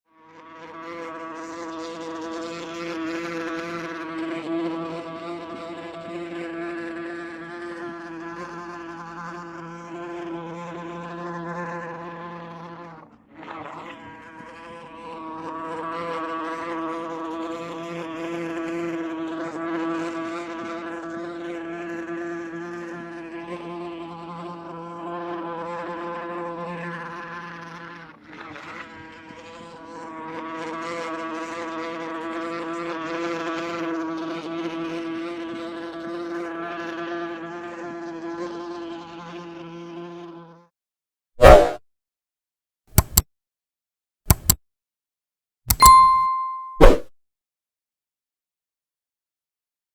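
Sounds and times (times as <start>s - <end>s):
wasp buzzing in flight: 0.2s - 40.6s.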